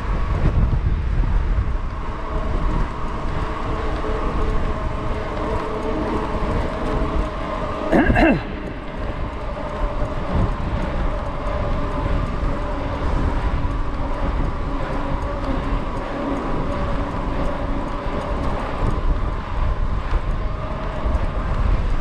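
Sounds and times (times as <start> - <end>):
bicycle tyres rumbling: 0.0 - 22.0
wind buffeting microphone: 0.0 - 22.0.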